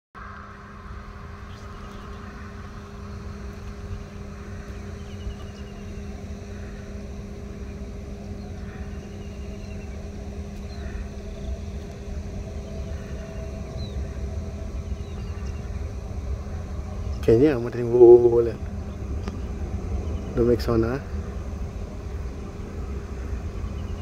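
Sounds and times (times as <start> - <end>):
distant jet engines rumbling: 0.2 - 24.0.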